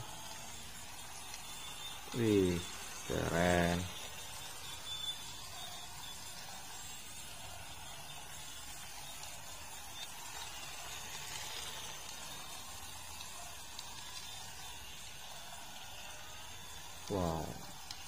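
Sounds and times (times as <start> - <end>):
toy car motor whirring: 0.0 - 18.0.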